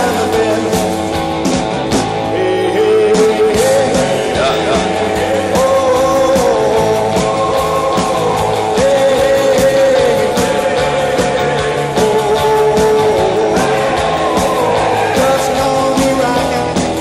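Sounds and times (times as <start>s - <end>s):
rock and roll music: 0.0s - 17.0s.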